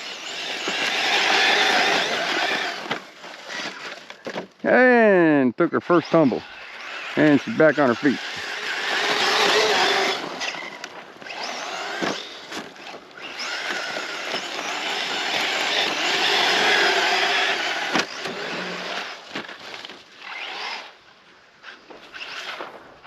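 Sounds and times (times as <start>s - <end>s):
electric motor whining: 0.0s - 4.4s, 5.8s - 21.0s
tyres churning sand: 0.0s - 21.0s.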